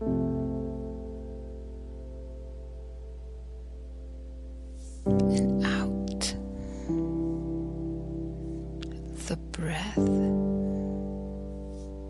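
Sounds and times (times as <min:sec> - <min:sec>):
gentle ringing background music: 0:00.0 - 0:12.0
soft hiss: 0:00.0 - 0:12.0.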